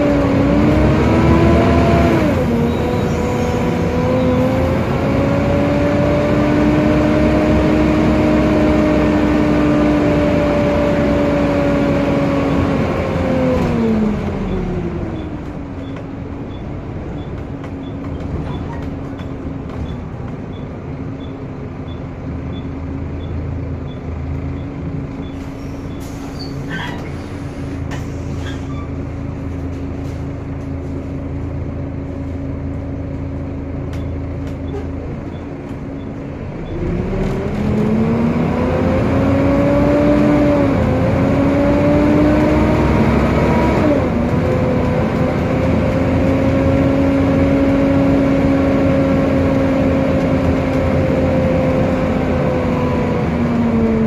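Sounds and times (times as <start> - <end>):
bus cooling fan whine: 0.0 - 54.0
bus drivetrain drone and whine: 0.0 - 54.0.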